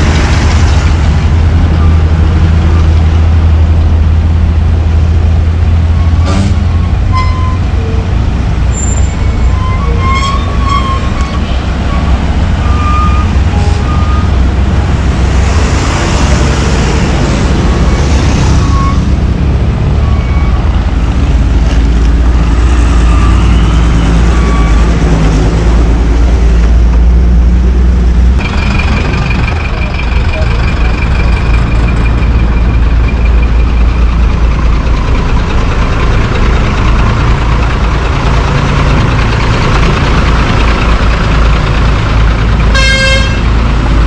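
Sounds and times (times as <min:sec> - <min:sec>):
bus and truck engines rumbling: 0:00.0 - 0:44.0.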